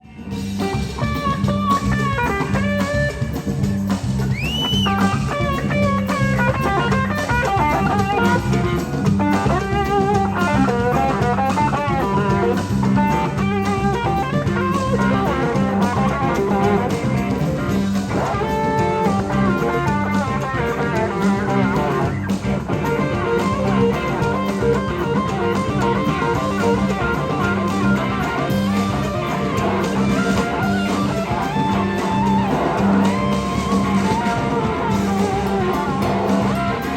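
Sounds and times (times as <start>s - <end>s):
live blues-rock band: 0.0s - 36.9s
electric slide guitar solo: 0.3s - 36.9s.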